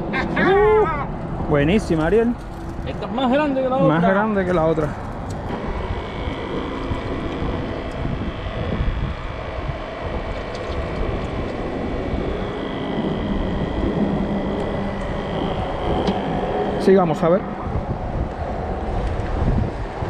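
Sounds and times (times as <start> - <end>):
faint engine drone: 0.0 - 20.0
road traffic rumble: 0.0 - 20.0
wind on microphone: 3.9 - 20.0.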